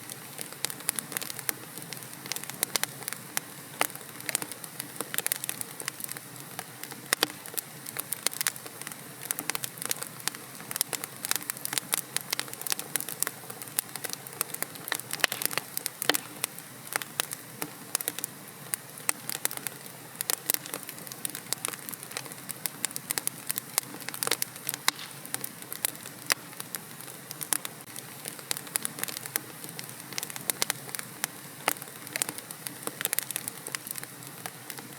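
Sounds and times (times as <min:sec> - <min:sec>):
fire crackling and popping: 0:00.0 - 0:34.9
hiss of flames: 0:00.1 - 0:34.8.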